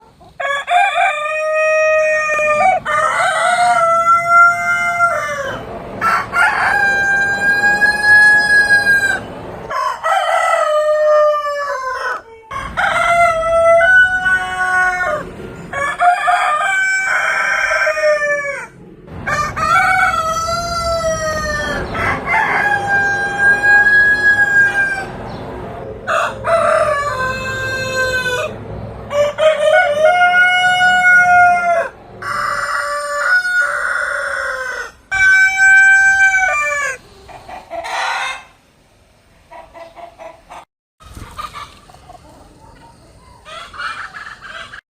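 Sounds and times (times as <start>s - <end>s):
rooster crowing: 0.4s - 25.4s, 26.0s - 37.0s, 37.8s - 38.6s.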